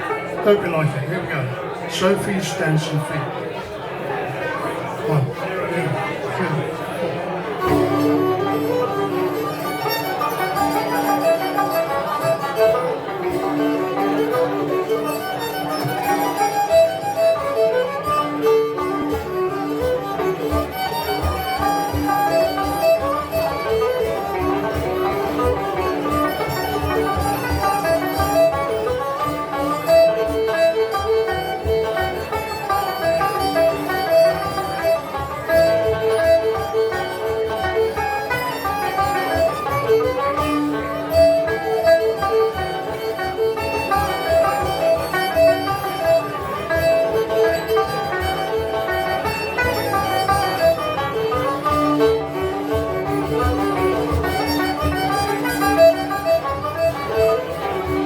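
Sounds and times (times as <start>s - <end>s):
acoustic folk band playing: 0.0s - 58.0s.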